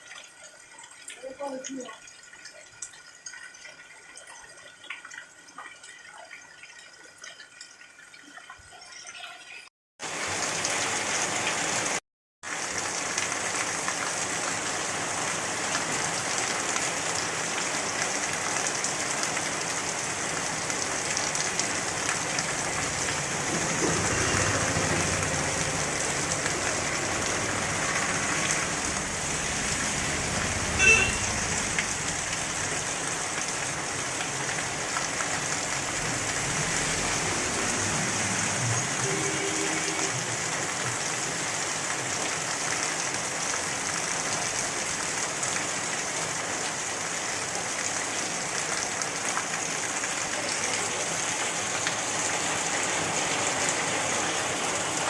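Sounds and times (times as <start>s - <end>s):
heavy rain falling: 10.0s - 55.0s.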